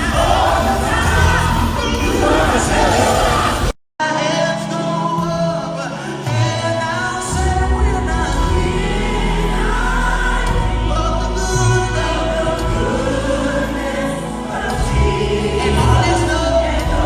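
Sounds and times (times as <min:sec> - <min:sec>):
gospel choir singing: 0:00.0 - 0:17.0
instrumental backing with bass: 0:00.0 - 0:17.0.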